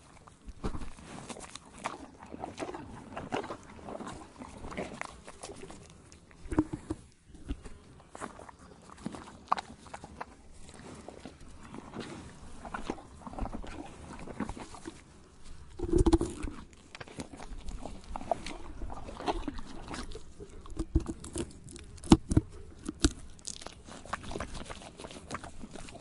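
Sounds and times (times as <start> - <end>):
horse chewing tree bark: 0.0 - 26.0.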